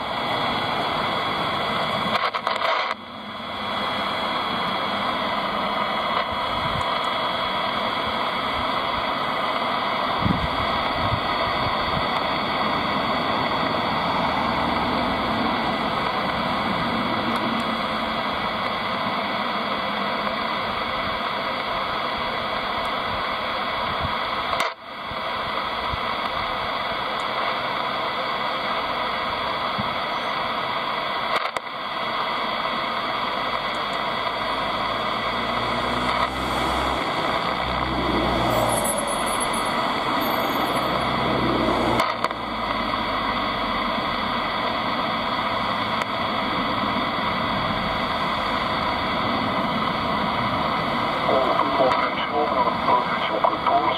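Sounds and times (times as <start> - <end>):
radio static hiss: 0.0 - 53.9.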